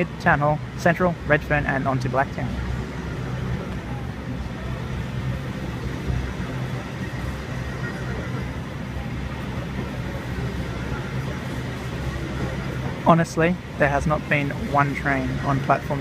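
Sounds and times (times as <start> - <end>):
electric train pulling out: 0.0 - 16.0.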